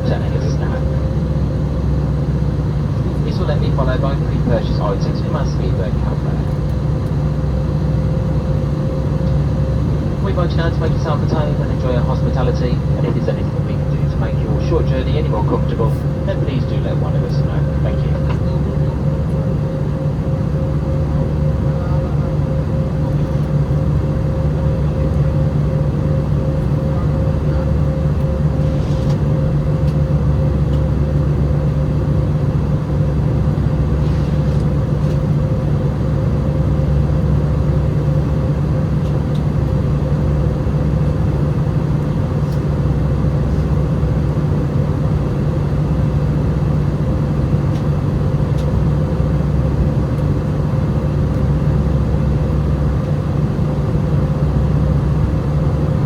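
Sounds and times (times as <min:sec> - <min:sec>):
jet engines droning: 0:00.0 - 0:56.0
low hum: 0:00.0 - 0:56.0.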